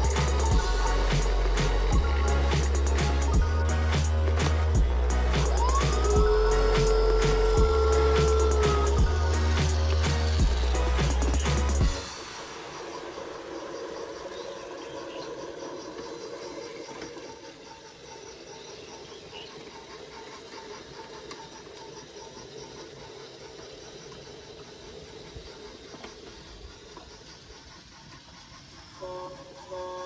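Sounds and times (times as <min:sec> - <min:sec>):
toy train motor whine: 0:00.0 - 0:30.0
wheels rolling on wooden track: 0:05.3 - 0:30.0.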